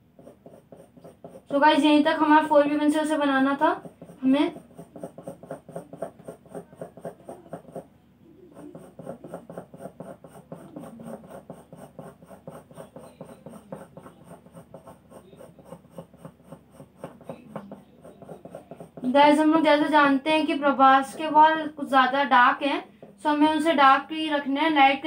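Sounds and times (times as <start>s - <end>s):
pencil scratching on paper: 0.0s - 25.0s.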